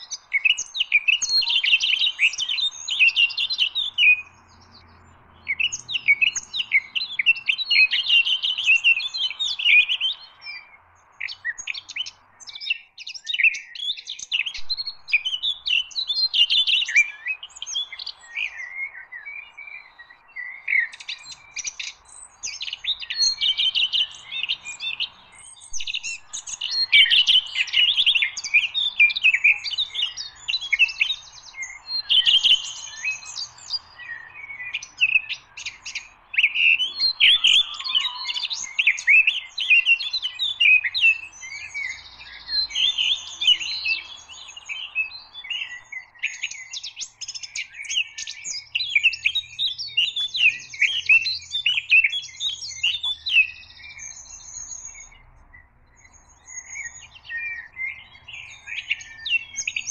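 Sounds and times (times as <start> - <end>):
recorded songbird song: 0.0 - 59.9.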